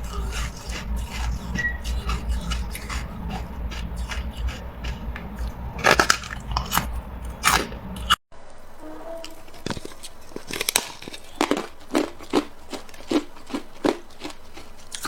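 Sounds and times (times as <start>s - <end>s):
chewing crunchy ice: 0.0s - 8.2s, 9.7s - 15.0s.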